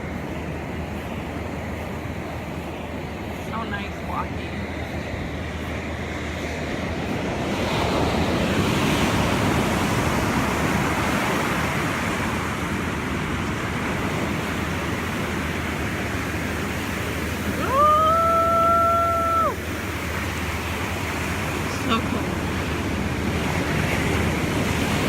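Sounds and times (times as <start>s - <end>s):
ocean surf on beach: 0.0s - 25.0s.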